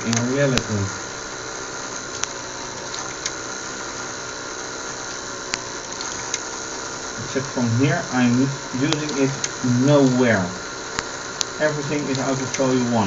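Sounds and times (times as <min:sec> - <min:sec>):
faint steady tones: 0:00.0 - 0:13.0
mechanical hum and hiss: 0:00.0 - 0:13.0.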